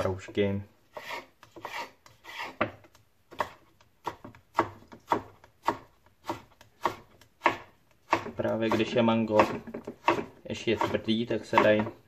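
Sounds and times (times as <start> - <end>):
knife cutting on wooden board: 0.9 - 12.0.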